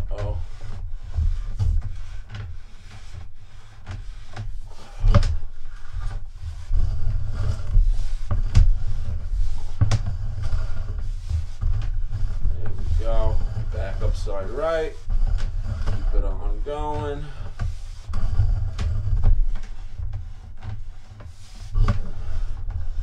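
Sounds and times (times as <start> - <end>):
cable scraping in drain pipe: 0.0 - 23.0.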